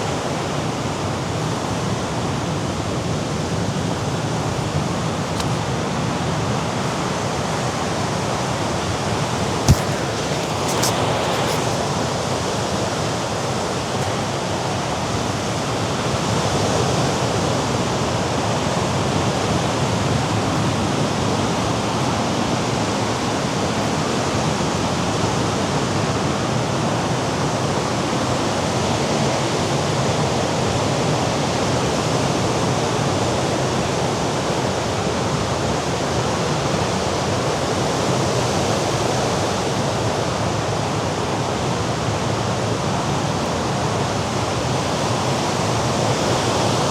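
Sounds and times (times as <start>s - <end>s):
wind: 0.0s - 46.9s.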